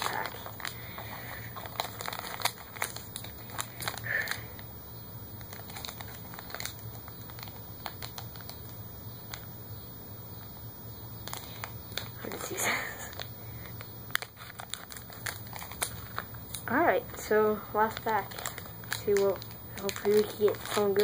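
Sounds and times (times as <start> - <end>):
wrapper crinkling and rustling: 0.0 - 4.6, 5.4 - 9.4, 11.2 - 21.0.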